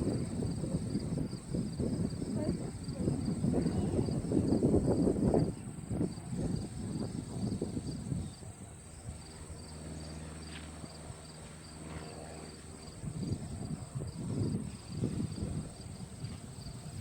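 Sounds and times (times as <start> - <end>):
wind buffeting microphone: 0.0 - 9.7, 12.8 - 17.0
crickets chirping: 0.0 - 17.0.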